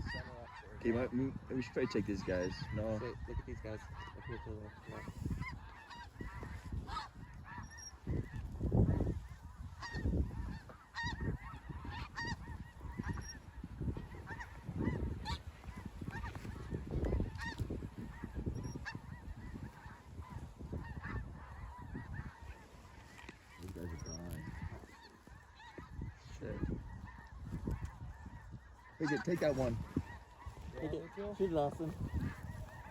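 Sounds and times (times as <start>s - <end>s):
geese honking: 0.0s - 32.9s.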